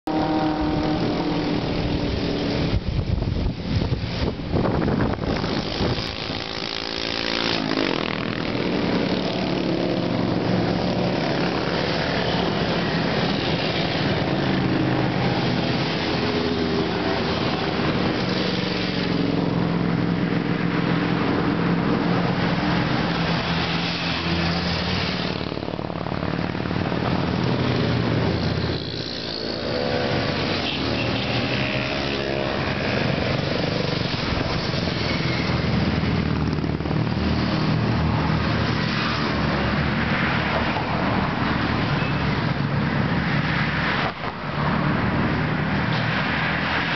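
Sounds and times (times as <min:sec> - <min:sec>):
motorcycles passing by: 0:00.1 - 0:46.9.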